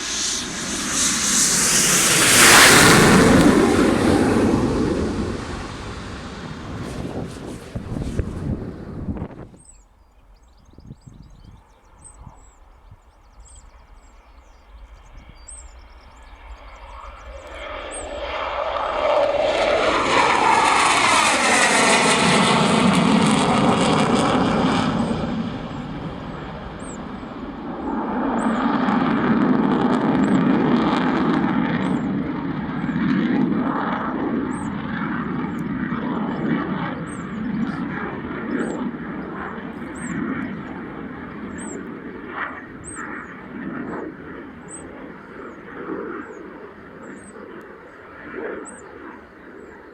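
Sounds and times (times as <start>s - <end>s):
jet engine whine passing: 0.0s - 9.6s, 15.2s - 49.9s
jet rumble: 0.0s - 9.8s, 14.1s - 48.4s.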